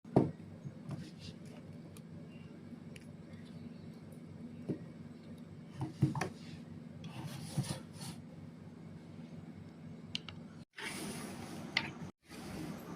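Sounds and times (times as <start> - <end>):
low steady hum: 0.1 - 12.9.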